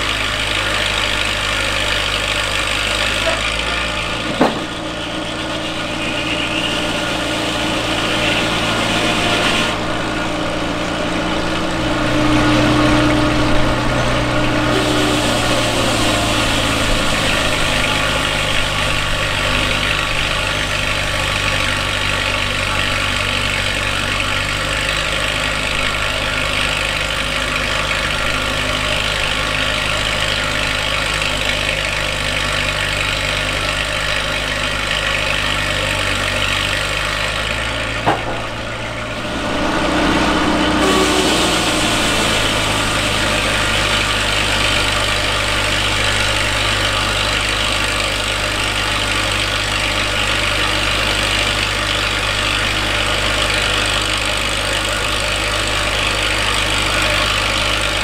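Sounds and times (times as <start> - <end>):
sawmill engine humming: 0.0 - 58.0.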